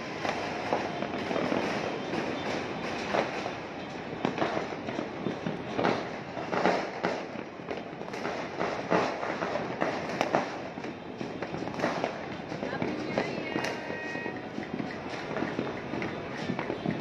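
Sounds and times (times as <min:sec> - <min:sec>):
fireworks and firecrackers popping: 0:00.0 - 0:17.0.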